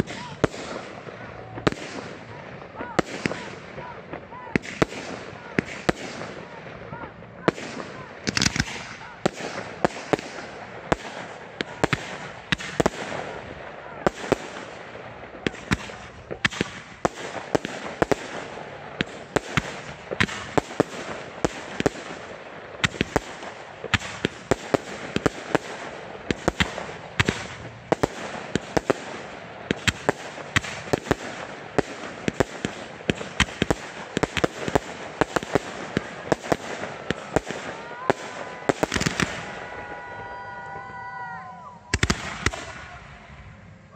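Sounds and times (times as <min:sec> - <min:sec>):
fireworks bangs and pops: 0:00.0 - 0:41.3, 0:41.9 - 0:43.4
fireworks crackling: 0:00.0 - 0:43.9.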